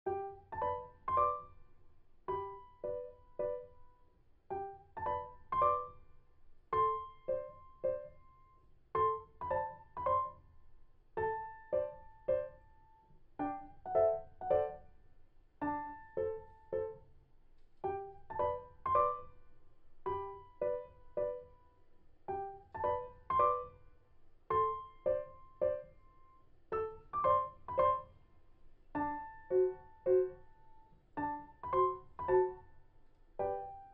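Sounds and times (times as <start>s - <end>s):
light piano melody: 0.0s - 33.9s.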